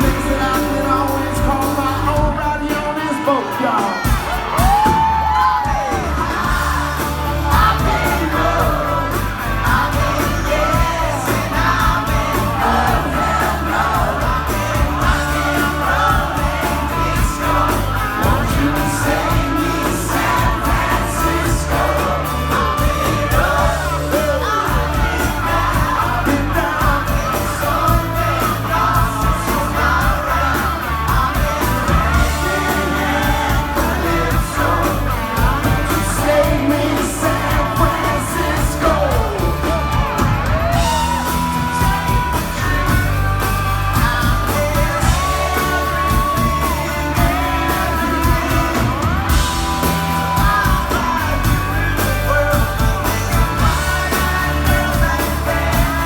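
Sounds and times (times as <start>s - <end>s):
person singing: 0.0s - 56.0s
pop-rock band playing: 0.0s - 56.0s.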